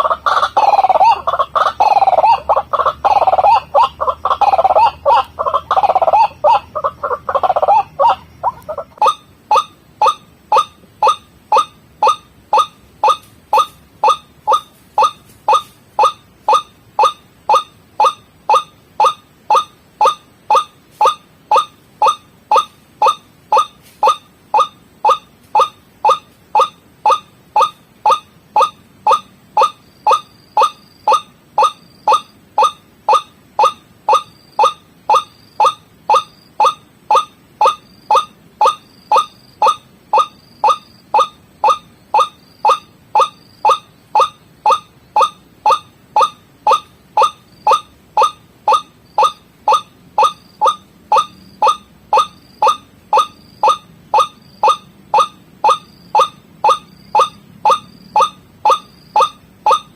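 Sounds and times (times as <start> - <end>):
waterhen calls: 0.0 - 59.9.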